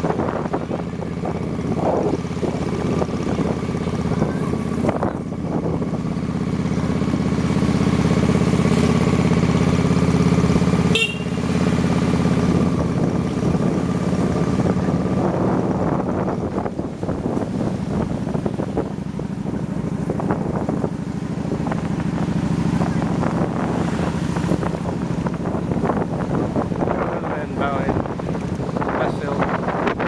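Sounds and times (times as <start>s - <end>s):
motorbike engine running: 0.0s - 30.0s
wind buffeting microphone: 0.0s - 30.0s.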